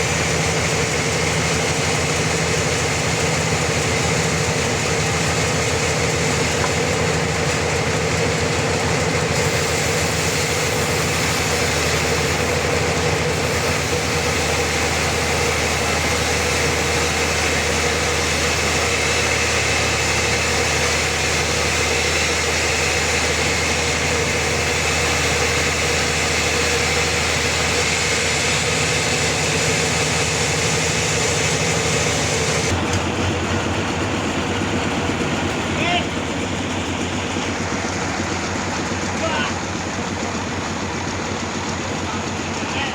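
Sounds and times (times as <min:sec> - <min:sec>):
saw cutting through log: 0:00.0 - 0:42.9
sawmill engine hum: 0:00.0 - 0:42.9.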